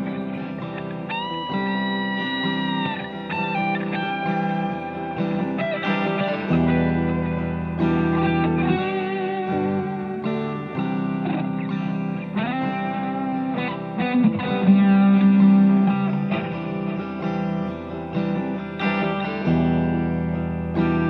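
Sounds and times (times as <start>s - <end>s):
electric guitar lead line: 0.0s - 21.0s
strummed electric guitar chords: 0.0s - 21.0s.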